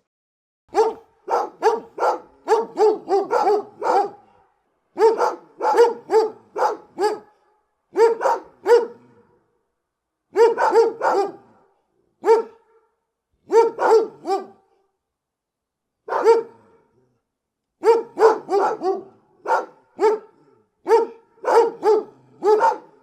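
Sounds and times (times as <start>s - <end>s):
big dog barking: 0.7s - 9.4s, 10.3s - 14.7s, 16.0s - 16.9s, 17.8s - 23.0s.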